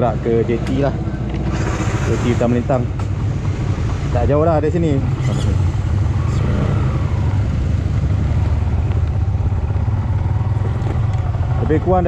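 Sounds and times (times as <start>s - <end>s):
motorcycle engine pulling away: 0.0s - 12.0s.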